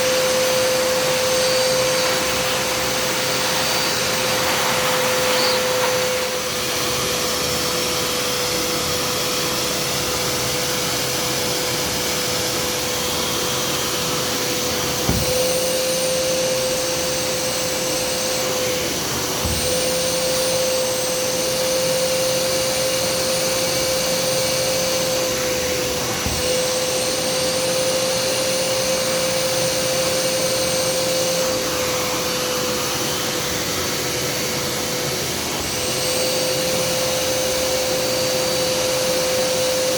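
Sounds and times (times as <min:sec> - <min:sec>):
carpet cleaner motor whine: 0:00.0 - 0:39.9.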